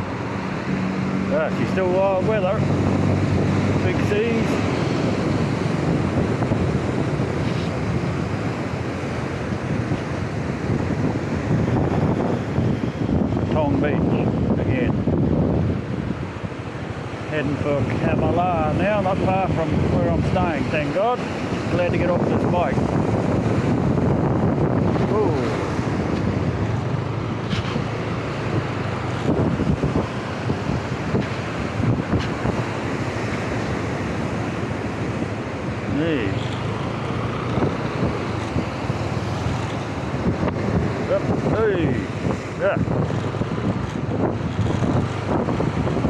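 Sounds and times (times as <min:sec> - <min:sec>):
surf breaking against shore: 0:00.0 - 0:46.0
wind buffeting microphone: 0:00.0 - 0:46.0.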